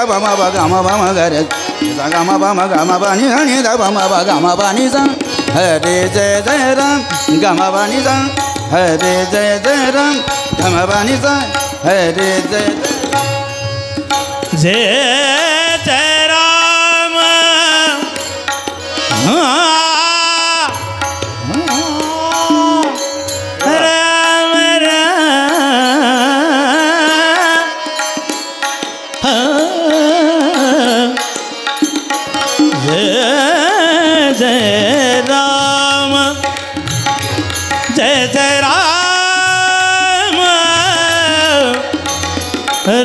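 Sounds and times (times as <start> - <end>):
man singing devotional song: 0.0 - 43.0
tabla: 0.0 - 43.0.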